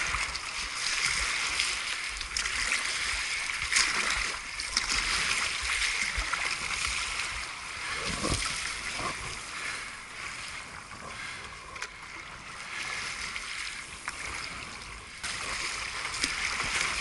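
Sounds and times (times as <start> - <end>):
water sloshing around paddleboard: 0.0 - 17.0.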